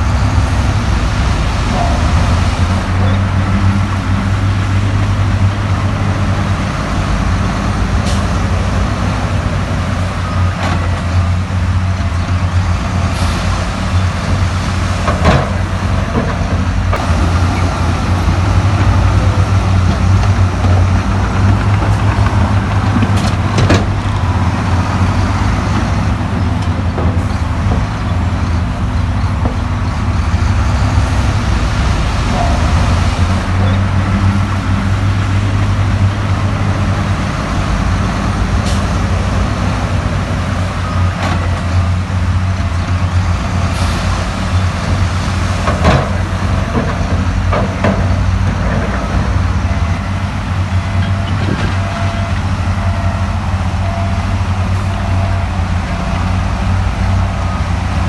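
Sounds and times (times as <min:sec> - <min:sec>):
diesel engine rumbling: 0:00.0 - 0:58.0.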